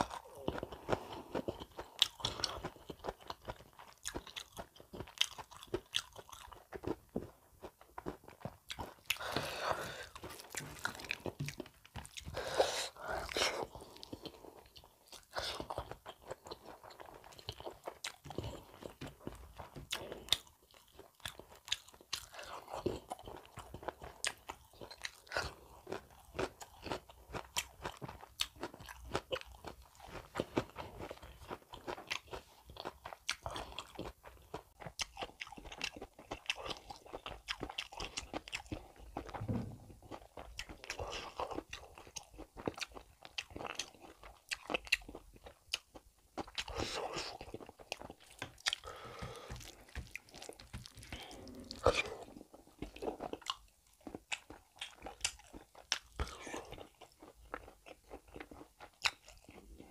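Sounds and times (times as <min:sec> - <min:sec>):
chewing food: 0:00.0 - 0:59.9.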